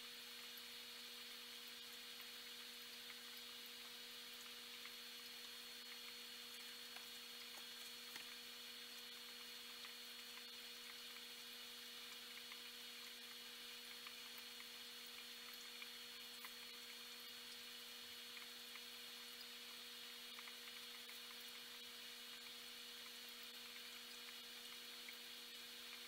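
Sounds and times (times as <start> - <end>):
faint electrical hum: 0.0 - 26.0
faint ticks: 1.2 - 26.0.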